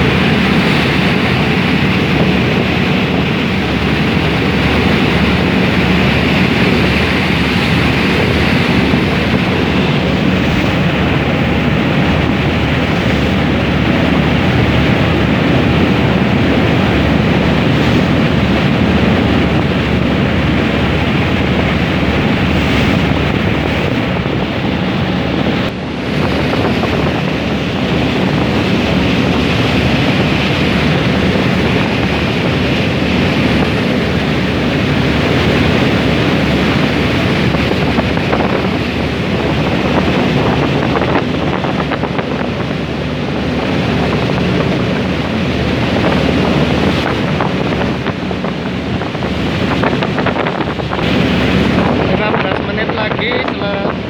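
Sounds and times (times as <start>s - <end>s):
low hum of ferry engines: 0.0s - 54.0s
water rushing past hull: 0.0s - 54.0s
wind on microphone: 0.0s - 54.0s.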